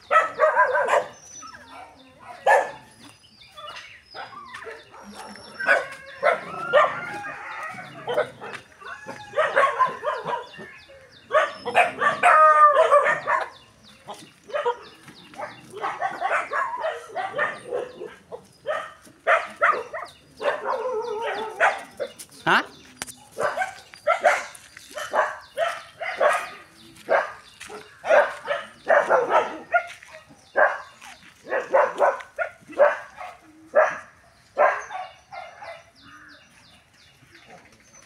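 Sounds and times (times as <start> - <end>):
dogs barking and yelping: 0.0 - 36.5.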